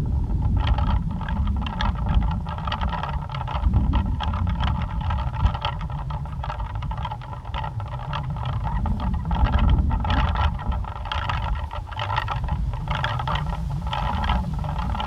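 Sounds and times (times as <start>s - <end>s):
pinwheel fluttering rattle: 0.0s - 15.0s
wind rumble on microphone: 0.0s - 15.0s.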